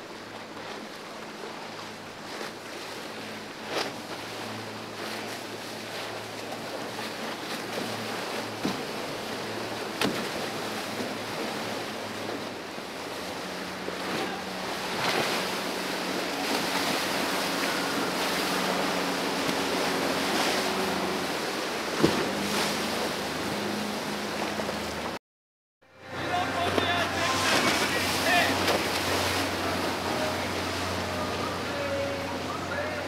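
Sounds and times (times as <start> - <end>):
churning water rushing: 0.0 - 25.2, 25.9 - 33.0
outboard motors humming: 0.0 - 25.2, 25.8 - 33.0.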